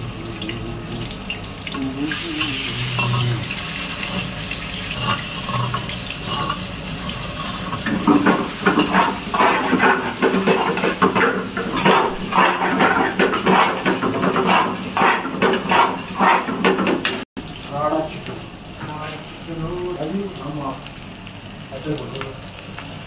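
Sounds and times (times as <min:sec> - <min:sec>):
kitchen tap running: 0:00.0 - 0:19.0.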